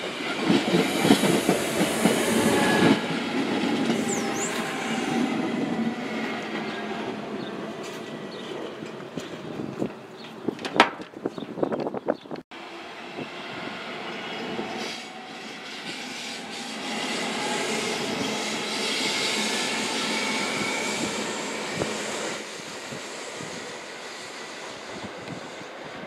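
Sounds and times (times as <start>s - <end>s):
train wheels rumbling on rail: 0.0s - 12.4s, 13.0s - 26.0s.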